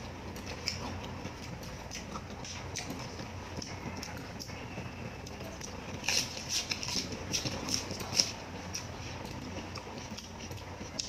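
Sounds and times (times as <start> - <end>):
close chewing with mouth clicks: 0.0 - 11.0
low background hum: 0.0 - 11.0.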